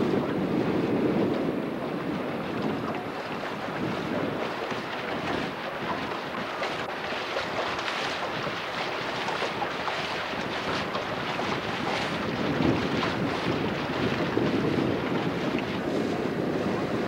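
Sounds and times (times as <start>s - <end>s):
water from moving boat: 0.0s - 17.0s
wind on microphone: 0.0s - 17.0s.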